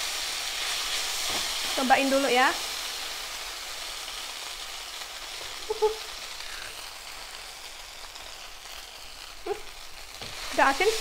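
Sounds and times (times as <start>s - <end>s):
noodles sizzling in a frying pan: 0.0s - 11.0s.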